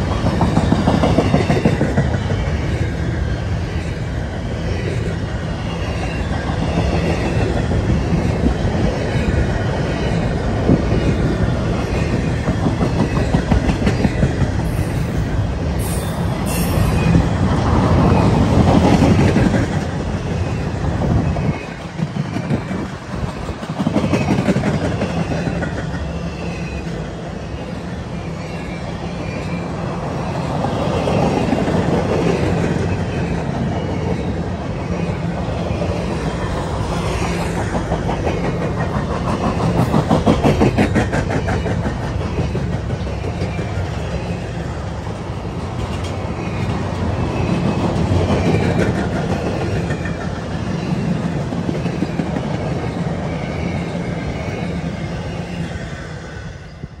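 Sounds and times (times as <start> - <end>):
train wheels clickety-clacking: 0.0 - 4.2, 4.8 - 56.1
train wheels rumbling on rail: 0.0 - 57.0.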